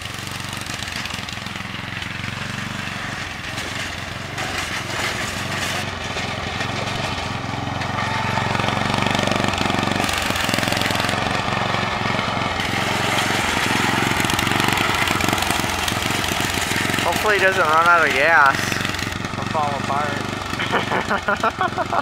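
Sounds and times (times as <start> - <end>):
small lawn mower engine running: 0.0 - 22.0.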